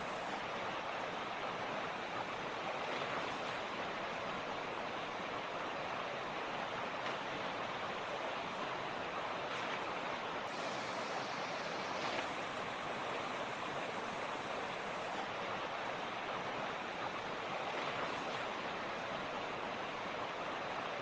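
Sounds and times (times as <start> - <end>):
creek running over rocks: 0.0 - 21.0.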